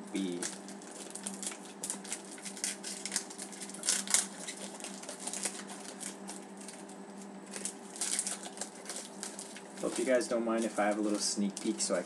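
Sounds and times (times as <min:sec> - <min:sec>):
foil wrapper crinkling and tearing: 0:00.1 - 0:12.0.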